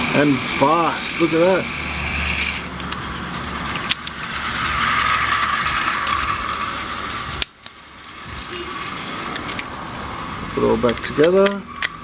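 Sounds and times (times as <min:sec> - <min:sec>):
toy train motor whirring: 0:00.0 - 0:09.7.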